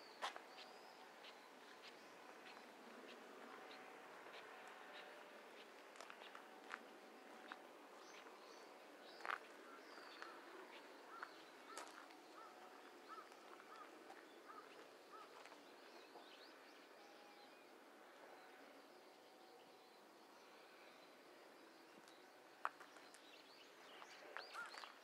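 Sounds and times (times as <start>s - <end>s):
faint outdoor ambience: 0.0s - 25.0s.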